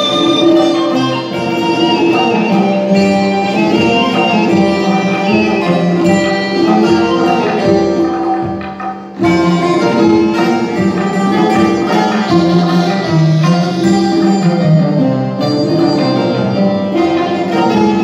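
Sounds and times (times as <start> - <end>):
hand drum: 0.0 - 18.0
plucked lutes: 0.0 - 18.0
zither: 0.0 - 18.0.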